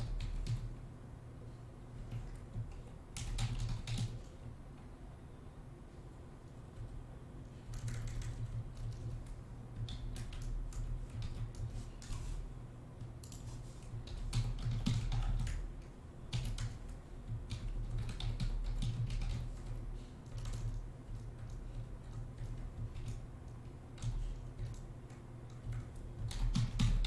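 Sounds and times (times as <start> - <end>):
computer keyboard typing: 0.0 - 0.8, 2.0 - 4.5, 6.7 - 7.0, 7.6 - 12.4, 13.0 - 27.0
steady low hum: 0.0 - 27.0.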